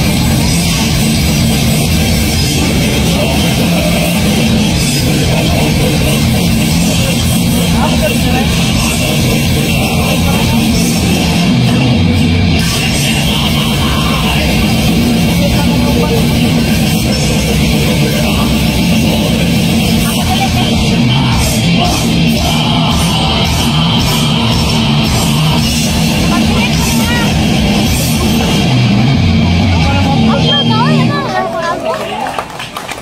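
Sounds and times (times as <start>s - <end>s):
heavy metal band playing: 0.0s - 32.6s.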